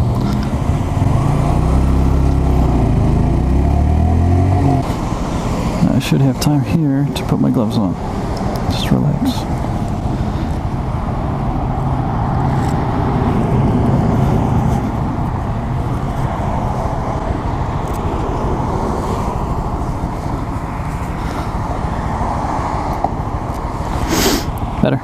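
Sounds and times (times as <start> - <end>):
motorcycle engine running: 0.0 - 6.1, 9.4 - 24.6.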